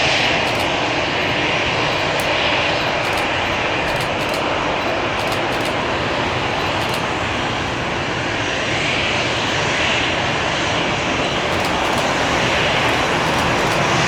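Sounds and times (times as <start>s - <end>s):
airliner engines: 0.0s - 14.0s.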